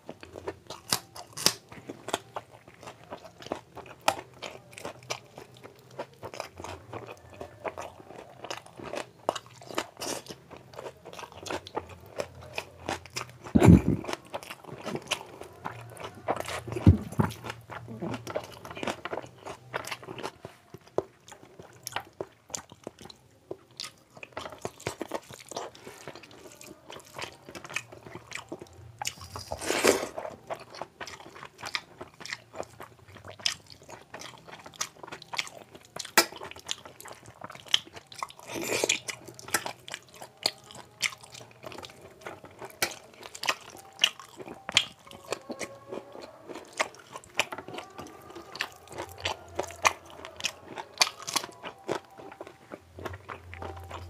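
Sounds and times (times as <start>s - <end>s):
wet chewing and lip-smacking: 0.0s - 54.0s
food crunches: 0.1s - 54.0s.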